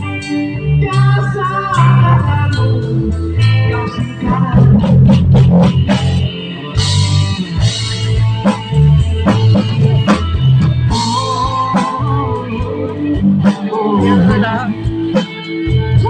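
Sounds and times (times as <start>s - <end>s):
drum kit beat: 0.0s - 16.0s
rock band playing: 0.0s - 16.0s
sustained guitar line: 0.0s - 16.0s.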